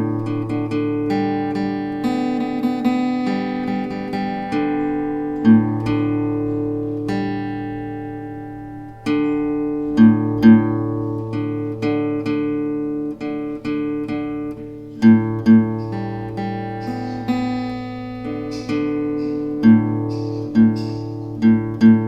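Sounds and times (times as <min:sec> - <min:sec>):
plucked-string instrumental music: 0:00.0 - 0:22.0.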